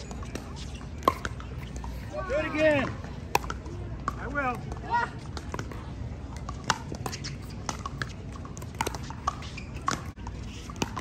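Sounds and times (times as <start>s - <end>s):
paddles hitting pickleball: 0.0s - 11.0s.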